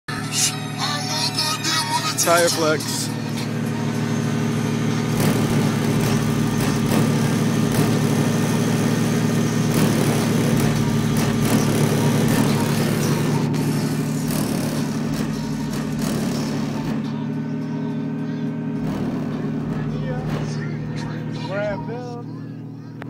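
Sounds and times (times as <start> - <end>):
heavy bass music from subwoofers: 0.1 - 23.0.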